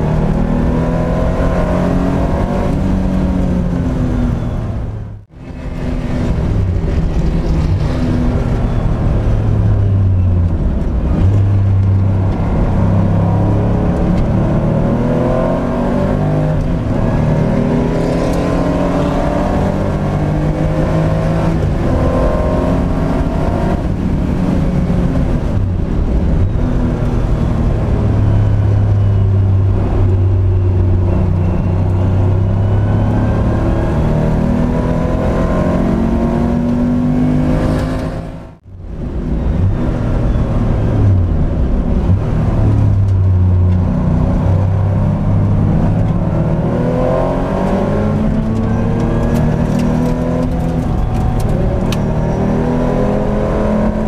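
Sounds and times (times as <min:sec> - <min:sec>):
racing engine revving through gears: 0:00.0 - 0:38.6, 0:42.0 - 0:54.0.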